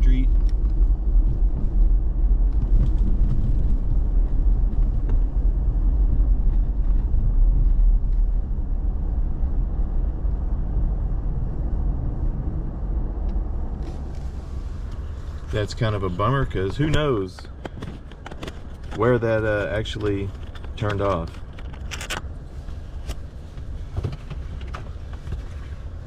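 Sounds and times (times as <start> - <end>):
truck road rumble from inside: 0.0 - 26.0.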